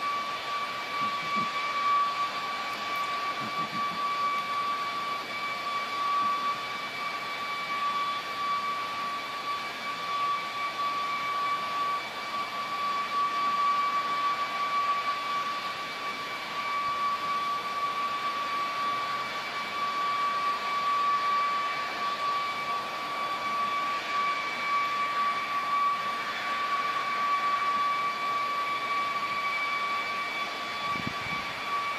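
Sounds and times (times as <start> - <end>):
loud high-pitched whine: 0.0 - 31.9.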